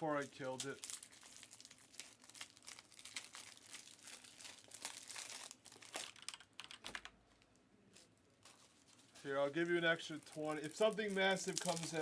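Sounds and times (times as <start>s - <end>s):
wrappers crinkling and rustling: 0.0s - 12.0s.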